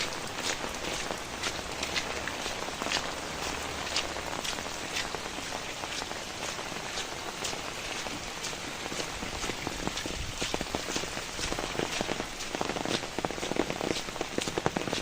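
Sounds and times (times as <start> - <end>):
patter of raindrops: 0.0 - 15.0
rain falling: 0.0 - 15.0.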